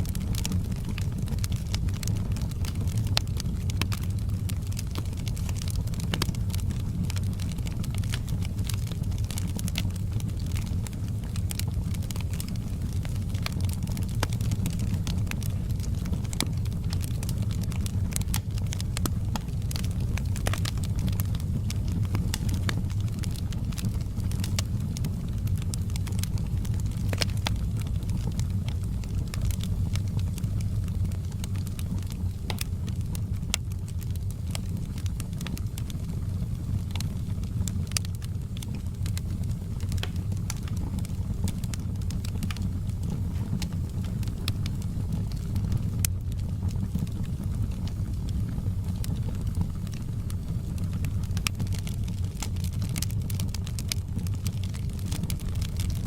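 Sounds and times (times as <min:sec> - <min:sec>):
low rumble of burning fire: 0:00.0 - 0:56.0
wood fire popping and snapping: 0:00.0 - 0:56.0.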